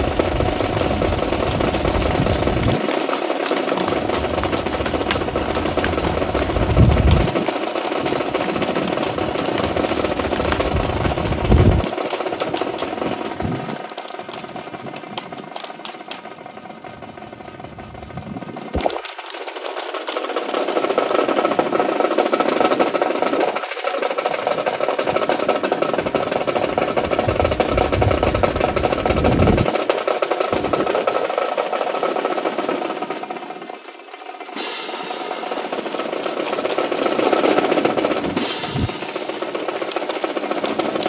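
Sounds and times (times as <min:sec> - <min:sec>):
drill rifles clattering: 0:00.0 - 0:41.0.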